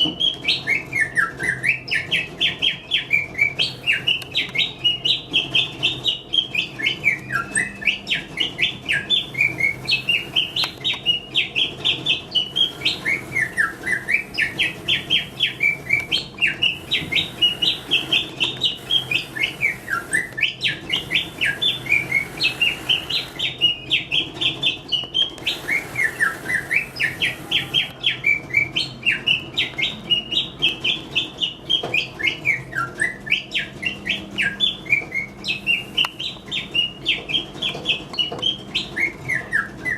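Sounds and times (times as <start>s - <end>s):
mechanical bird whistling: 0.0s - 39.9s.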